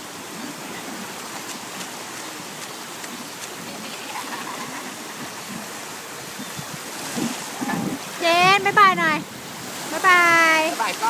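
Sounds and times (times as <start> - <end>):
small waves in shallows: 0.0 - 11.0.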